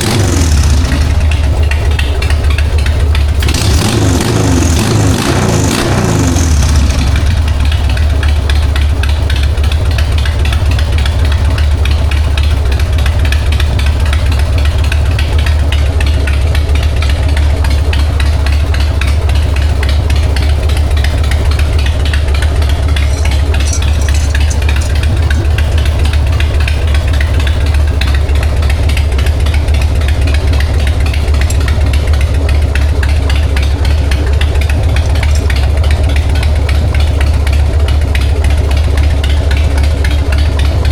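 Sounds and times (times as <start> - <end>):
motorcycle engine idling: 0.0 - 4.8, 6.3 - 40.9.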